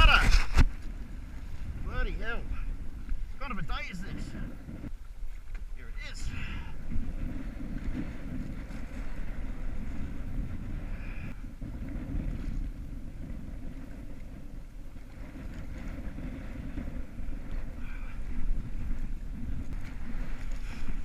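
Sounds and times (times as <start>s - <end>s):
water washing around hull: 0.0s - 21.0s
wind rumbling on microphone: 0.0s - 21.0s.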